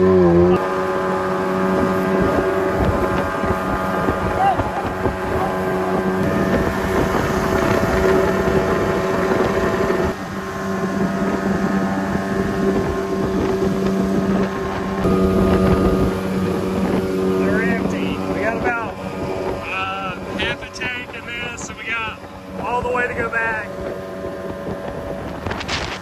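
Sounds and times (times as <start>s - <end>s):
boat engine running at high speed: 0.0s - 26.0s
rushing water: 0.0s - 26.0s
wind buffeting microphone: 0.0s - 26.0s.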